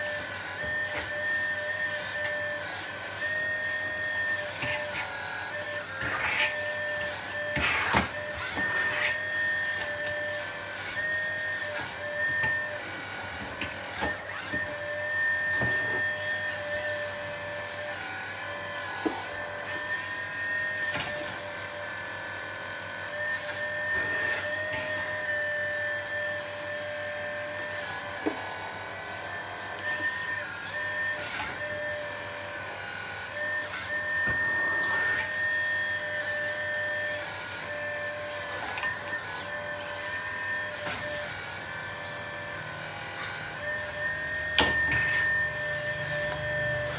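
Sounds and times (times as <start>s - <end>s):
small electric motor whine: 0.0s - 46.9s.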